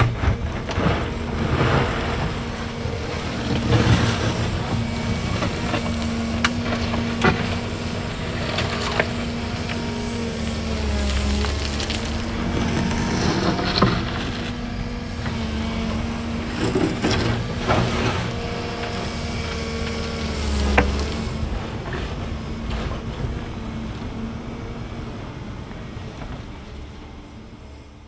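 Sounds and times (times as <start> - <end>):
excavator engine running: 0.0 - 28.0
bucket scraping gravel and stones: 0.3 - 23.0.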